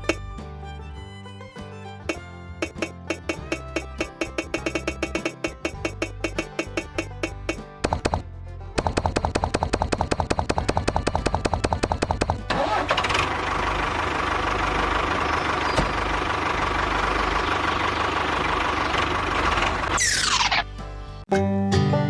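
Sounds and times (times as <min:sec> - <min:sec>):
engine cranking and starting: 0:01.5 - 0:21.2.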